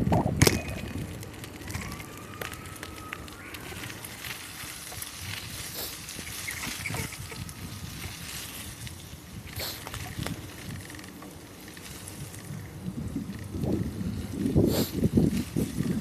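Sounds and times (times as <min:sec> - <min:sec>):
bicycle tyres rumbling: 0:00.0 - 0:16.0
wind on microphone: 0:00.0 - 0:16.0.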